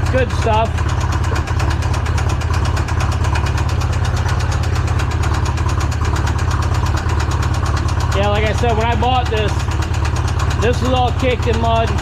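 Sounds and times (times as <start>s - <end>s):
engine running with rapid knocking: 0.0s - 12.0s.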